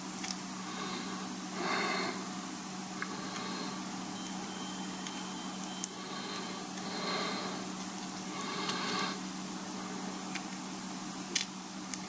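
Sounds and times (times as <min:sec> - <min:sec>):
low hum and room hiss: 0:00.0 - 0:12.0.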